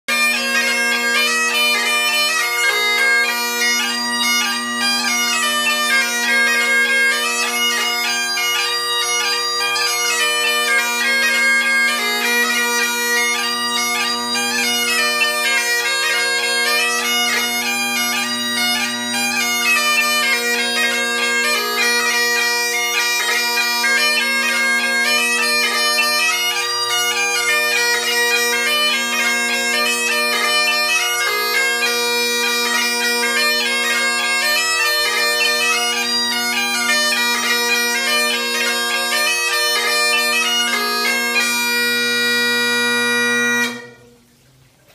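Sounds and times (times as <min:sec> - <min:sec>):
bagpipes playing: 0:00.1 - 0:44.1.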